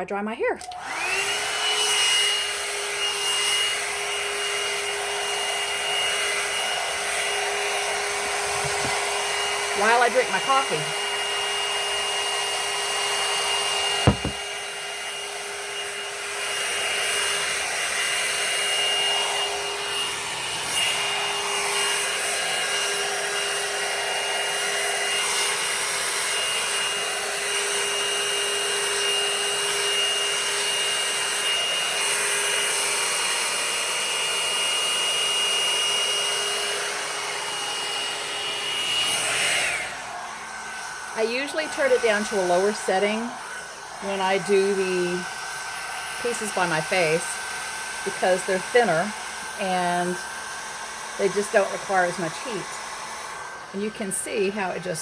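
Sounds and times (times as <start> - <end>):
hot-air brush motor whine: 0.6 - 55.0.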